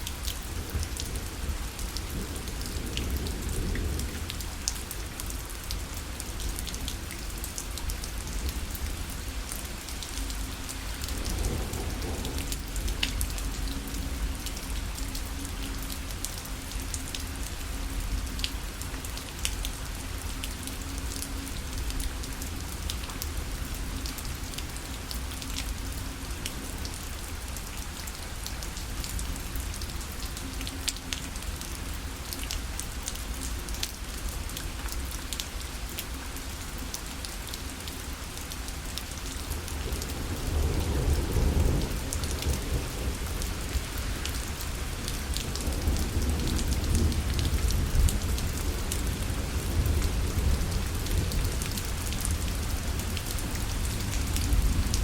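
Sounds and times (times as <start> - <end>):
rain drops on fabric parasol: 0.0 - 55.0.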